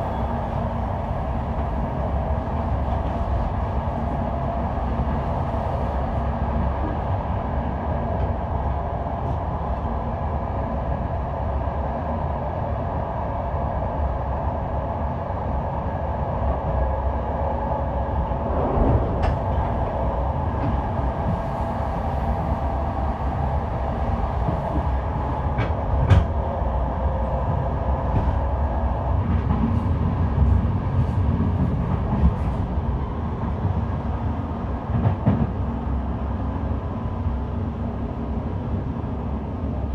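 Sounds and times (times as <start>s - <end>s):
train rumble: 0.0s - 39.9s.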